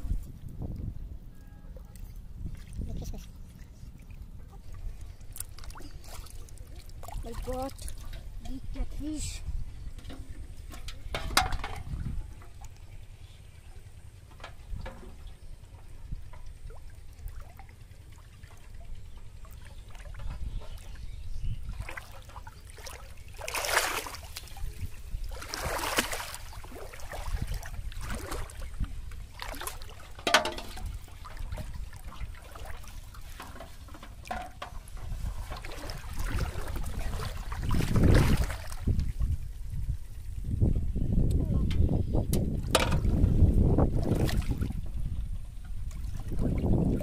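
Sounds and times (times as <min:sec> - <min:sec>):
water sloshing and splashing: 0:00.0 - 0:40.7, 0:42.2 - 0:47.0.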